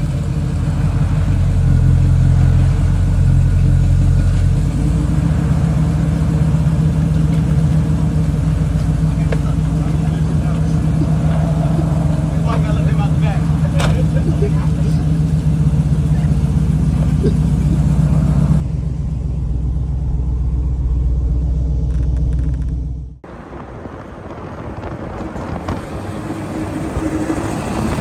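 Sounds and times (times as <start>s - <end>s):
tire noise on road: 0.0s - 28.0s
truck engine rumbling: 0.0s - 28.0s.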